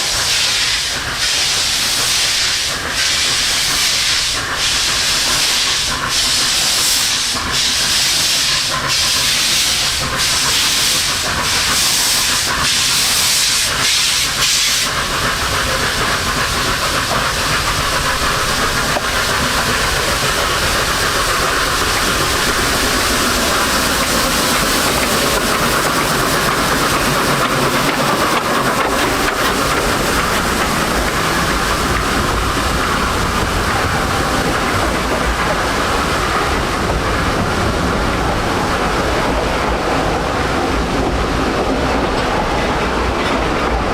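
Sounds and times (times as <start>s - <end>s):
steam locomotive exhaust hissing: 0.0s - 43.9s.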